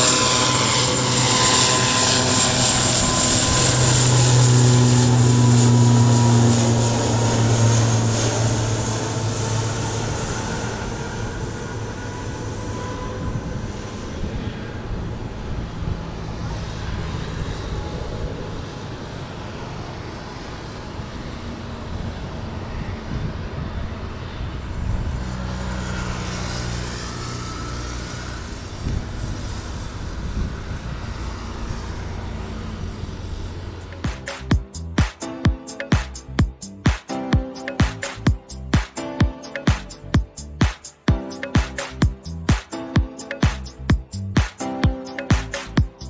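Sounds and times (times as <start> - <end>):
turboprop engine and propeller drone: 0.0 - 46.0.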